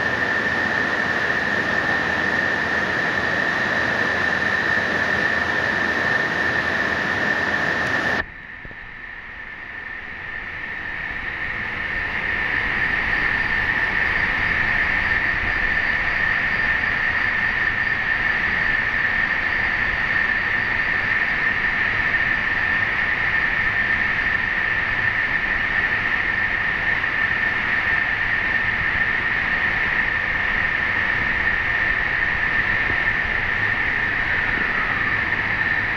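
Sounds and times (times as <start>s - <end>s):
machine drone with high whine: 0.0s - 35.9s.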